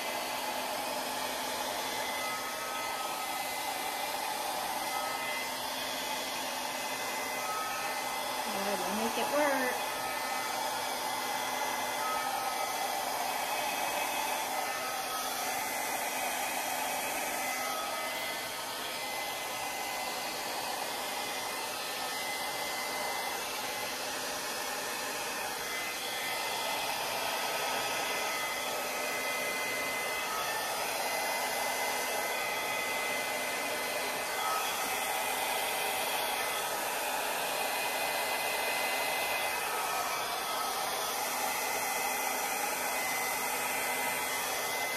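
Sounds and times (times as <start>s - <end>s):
hair dryer blowing air: 0.0s - 44.9s.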